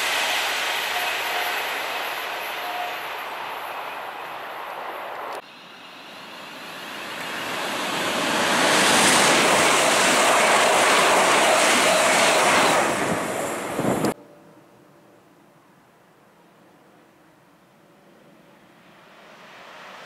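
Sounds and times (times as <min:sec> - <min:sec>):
electric train passing at speed: 0:00.0 - 0:15.3, 0:18.2 - 0:20.0
approaching train: 0:00.0 - 0:15.8, 0:16.4 - 0:20.0.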